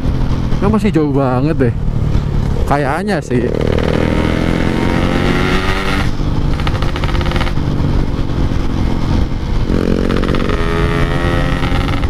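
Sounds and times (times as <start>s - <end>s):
exhaust crackle on coasting: 0.0s - 12.0s
motorcycle engine revving: 1.8s - 12.0s.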